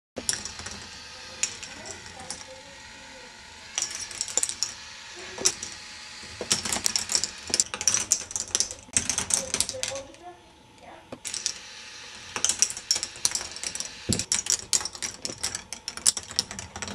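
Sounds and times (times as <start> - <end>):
plastic balls clattering on tracks: 0.2 - 10.2, 12.2 - 16.9.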